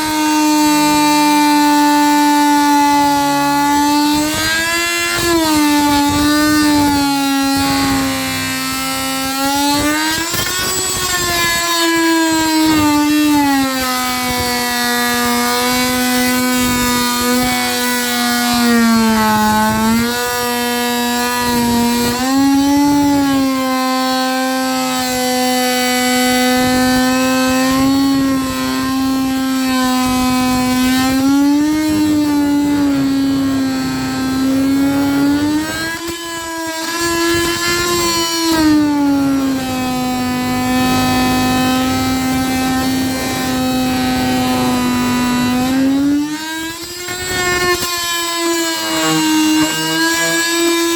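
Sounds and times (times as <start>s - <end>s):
power tool motor running: 0.0s - 50.9s.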